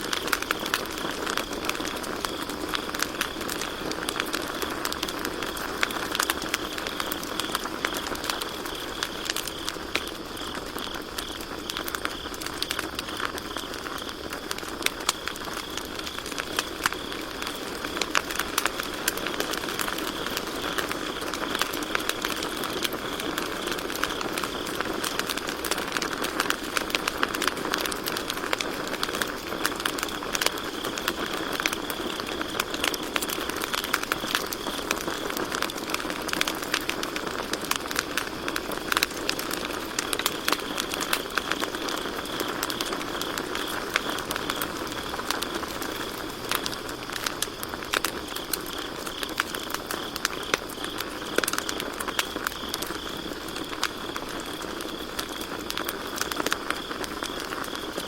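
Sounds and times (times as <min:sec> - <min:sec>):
campfire crackling and popping: 0:00.0 - 0:58.0
crickets chirring: 0:00.0 - 0:58.0.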